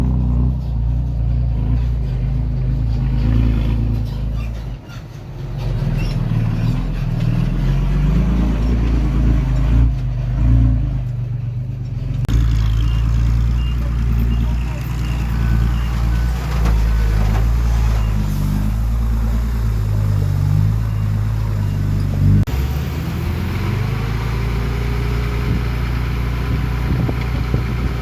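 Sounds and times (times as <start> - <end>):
diesel earthmoving machinery engine: 0.0 - 28.0.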